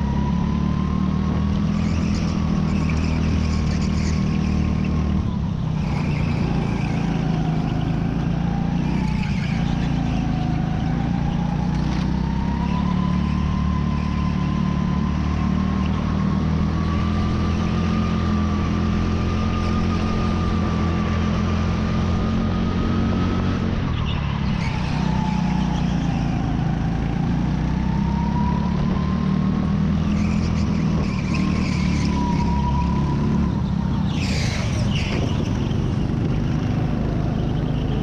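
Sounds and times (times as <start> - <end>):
go-kart engine whine: 0.0 - 38.0.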